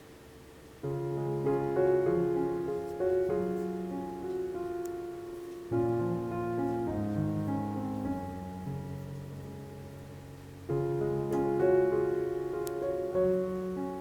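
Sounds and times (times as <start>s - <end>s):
soft piano chords: 0.7s - 14.0s.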